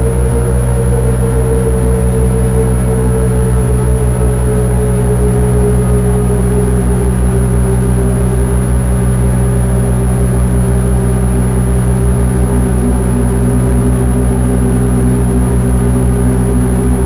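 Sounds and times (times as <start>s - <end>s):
high steady whine: 0.0s - 17.0s
synthesizer drone: 0.0s - 17.0s.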